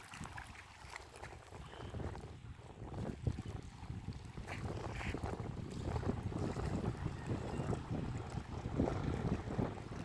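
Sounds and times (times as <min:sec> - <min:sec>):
small water splashes: 0:00.0 - 0:10.0
wind buffeting microphone: 0:00.0 - 0:10.0.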